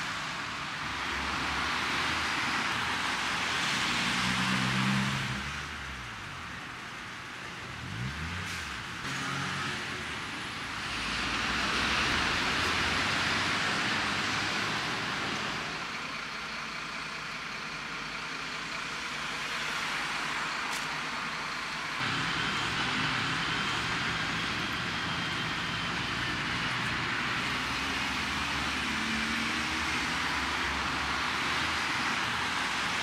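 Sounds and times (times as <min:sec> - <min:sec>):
vehicles passing on road: 0:00.0 - 0:33.0.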